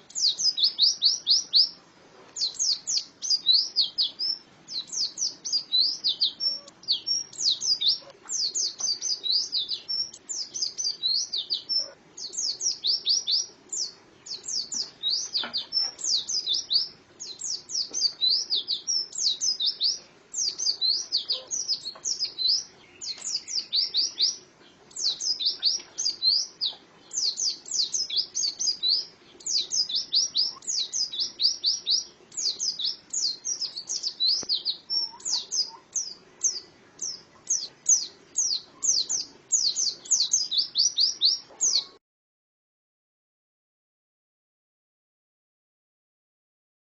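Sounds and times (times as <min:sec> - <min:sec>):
bird singing high thin chirps: 0:00.0 - 0:01.8, 0:02.4 - 0:42.0.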